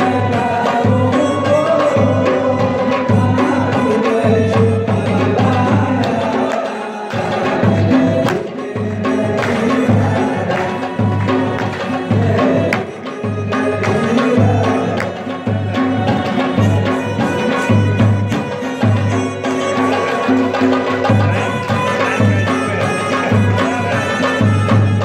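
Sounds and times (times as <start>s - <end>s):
folk song: 0.0s - 25.0s
hand drum beat: 0.0s - 25.0s.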